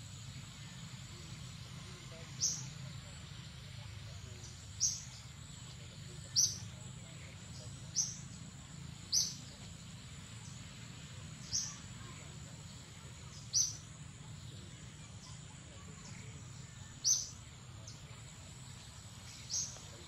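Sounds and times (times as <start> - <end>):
faint high-pitched whine: 0.0 - 20.0
bird chirping: 1.8 - 20.0.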